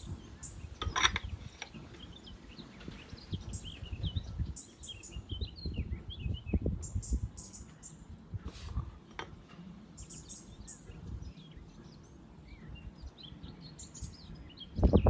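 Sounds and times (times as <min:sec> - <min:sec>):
low rumbling background noise: 0:00.0 - 0:15.0
small birds chirping: 0:00.0 - 0:15.0.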